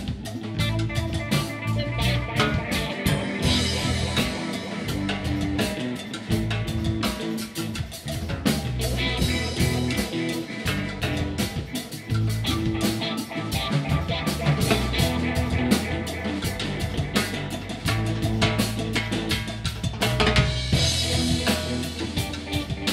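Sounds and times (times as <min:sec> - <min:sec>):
drum kit and cymbal hits: 0:00.0 - 0:22.9
electric bass: 0:00.0 - 0:22.9
electric guitars: 0:00.0 - 0:22.9.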